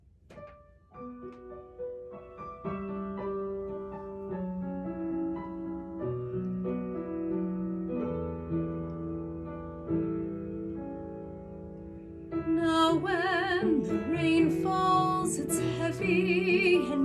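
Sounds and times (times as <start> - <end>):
slow piano ballad: 0.0 - 17.0.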